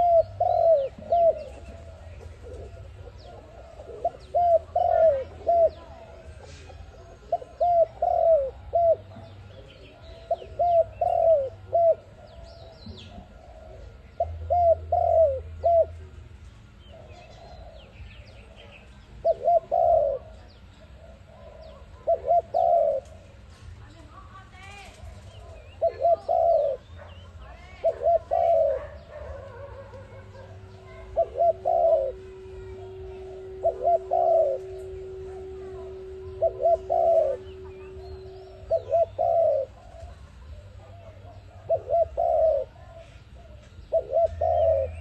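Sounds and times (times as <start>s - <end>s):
dove cooing: 0.0s - 45.0s
small birds chirping: 0.0s - 45.0s.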